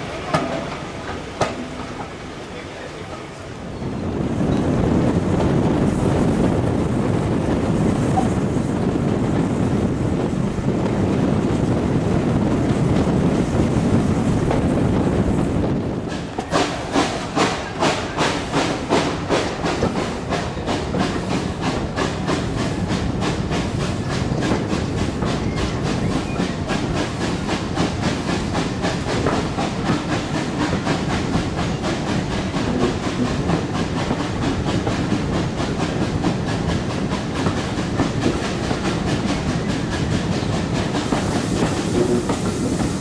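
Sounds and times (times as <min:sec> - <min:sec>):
train running rumble: 0:00.0 - 0:43.0.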